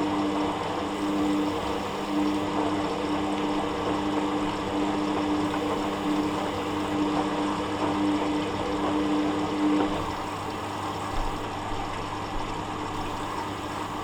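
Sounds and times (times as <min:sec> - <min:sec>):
washing machine spinning: 0:00.0 - 0:14.0.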